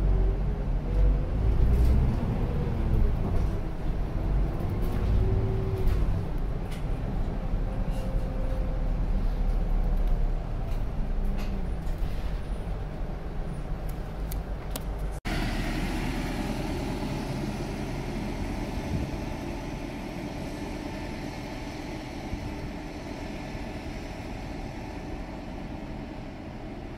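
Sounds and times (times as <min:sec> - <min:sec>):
bus diesel engine: 0:00.0 - 0:26.9.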